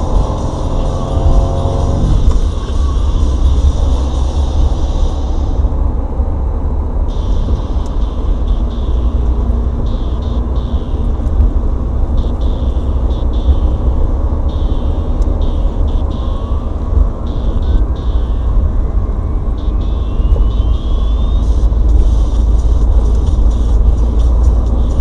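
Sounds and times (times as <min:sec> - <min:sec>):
road hiss: 0:00.0 - 0:18.7, 0:19.7 - 0:25.0
car engine and tyre rumble: 0:00.0 - 0:25.0.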